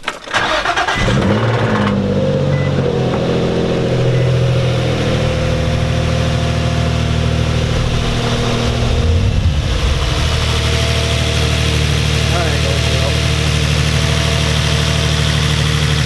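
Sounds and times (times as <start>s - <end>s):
car engine idling: 0.4s - 16.0s.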